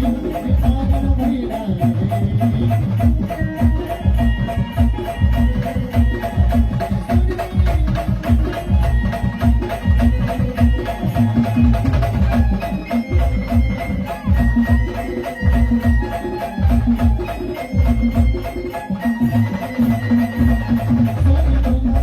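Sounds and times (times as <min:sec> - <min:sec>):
fast drum beat: 0:00.0 - 0:22.0.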